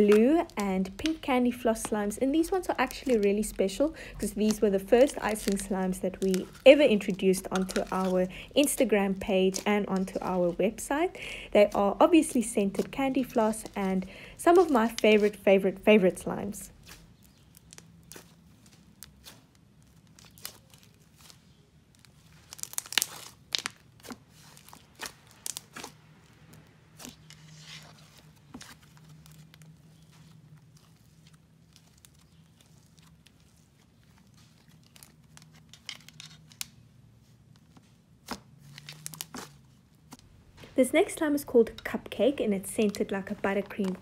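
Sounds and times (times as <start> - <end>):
slime crackling and tearing: 0.0 - 36.9, 37.5 - 40.3.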